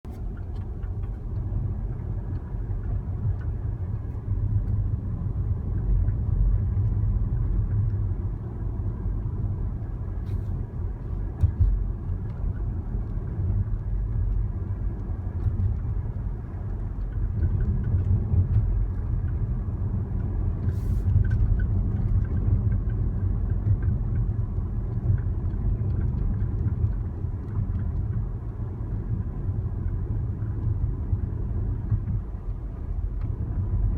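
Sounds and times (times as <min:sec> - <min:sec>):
moving vehicle rumble: 0:00.0 - 0:33.9.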